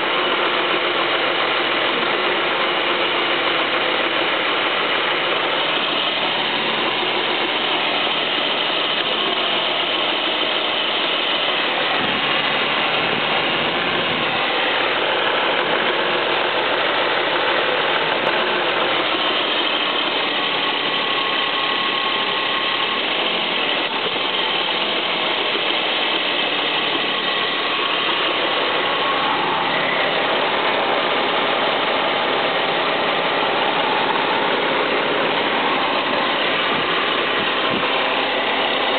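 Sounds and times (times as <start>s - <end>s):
car engine running with metallic clacking: 0.0s - 38.9s.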